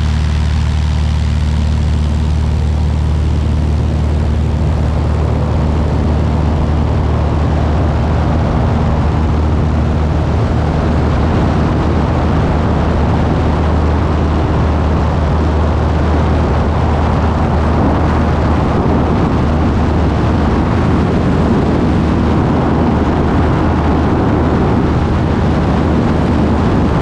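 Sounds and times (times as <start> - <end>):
light plane engine drone: 0.0 - 27.0.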